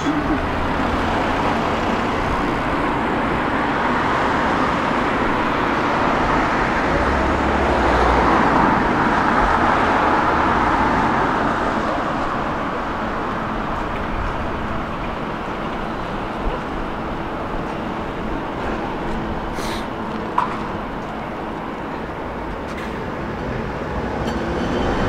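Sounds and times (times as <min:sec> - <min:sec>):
street traffic passing: 0:00.0 - 0:25.0.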